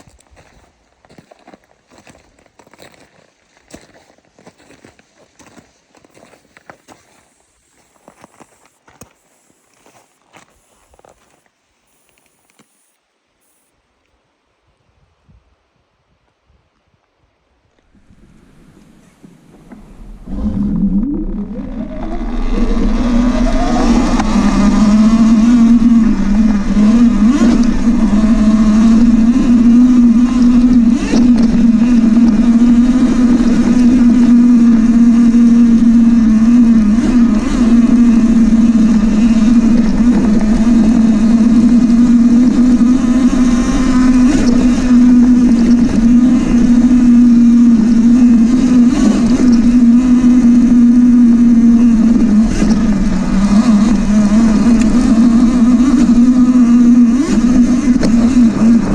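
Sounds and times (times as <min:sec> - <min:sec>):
dirt bike engine drone: 0:02.8 - 0:13.8, 0:17.8 - 0:58.9.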